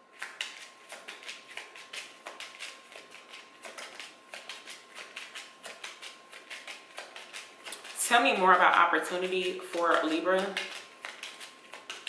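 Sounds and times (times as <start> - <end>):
cards being shuffled: 0.1 - 12.0.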